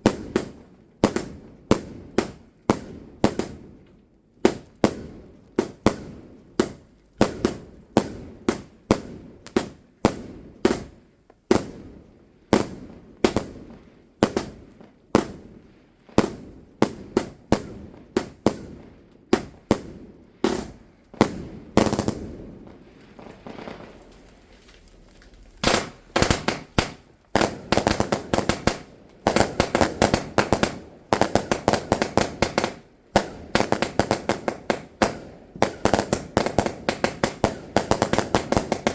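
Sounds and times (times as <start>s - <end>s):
fireworks bangs: 0.0s - 3.8s, 4.4s - 38.9s
fireworks crackling: 0.0s - 38.9s.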